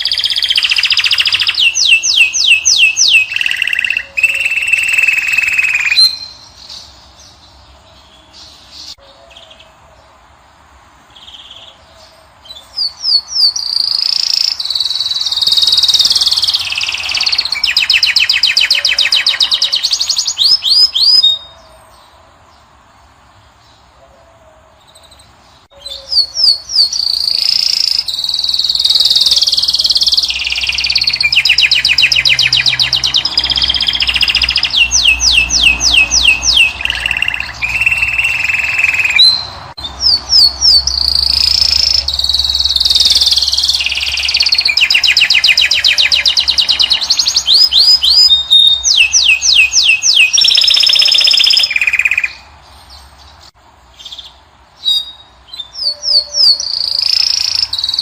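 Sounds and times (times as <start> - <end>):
goldfinch twittering song: 0.0 - 9.7, 12.4 - 21.6, 25.0 - 58.0.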